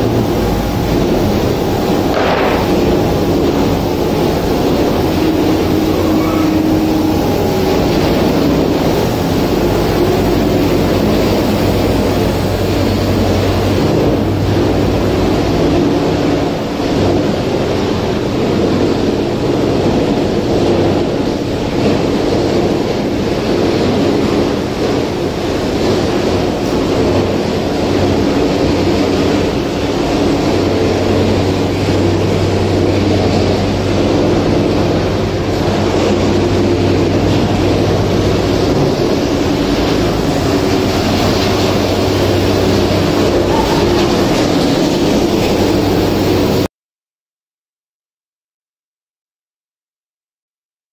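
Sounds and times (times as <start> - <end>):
factory machinery din: 0.0 - 46.7
low hum: 0.0 - 46.7.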